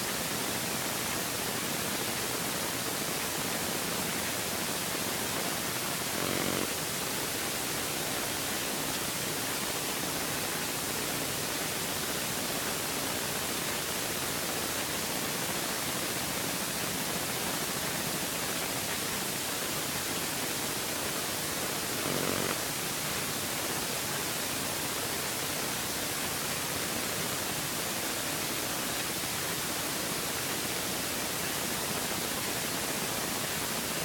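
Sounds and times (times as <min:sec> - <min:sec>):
steady static hiss: 0:00.0 - 0:34.0.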